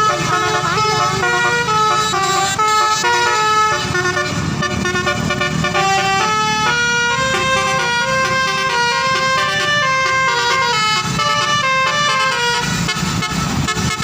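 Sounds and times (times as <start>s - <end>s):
bus engine rumble: 0.0s - 14.0s
bus horn playing a melody: 0.0s - 14.0s.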